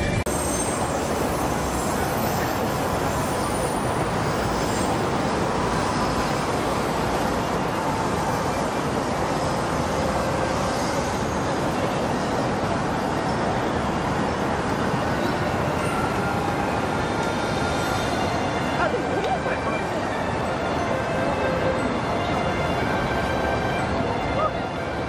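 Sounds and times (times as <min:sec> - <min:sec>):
city traffic: 0:00.0 - 0:25.0
trains: 0:00.0 - 0:25.0.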